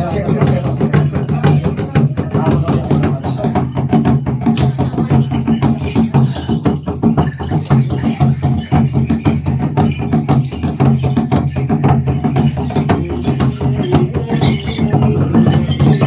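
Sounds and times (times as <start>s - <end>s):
fast dense percussion strikes: 0.0s - 16.0s.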